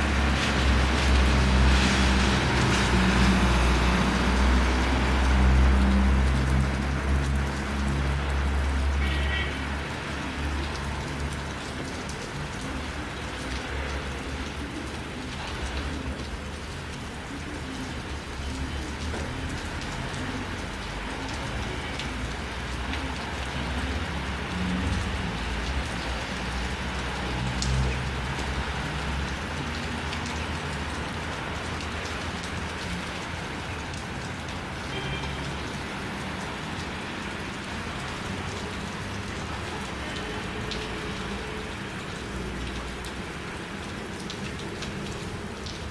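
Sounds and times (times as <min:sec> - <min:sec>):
wet snow and rain falling: 0:00.0 - 0:45.9.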